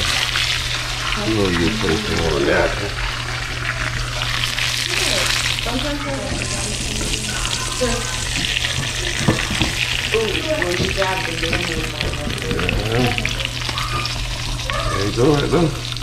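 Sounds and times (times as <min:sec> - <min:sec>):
fish frying in grease: 0:00.0 - 0:16.0.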